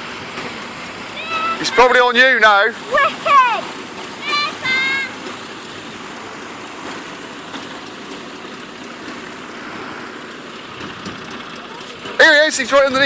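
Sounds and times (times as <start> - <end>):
water rushing around boat hull: 0.0 - 13.0.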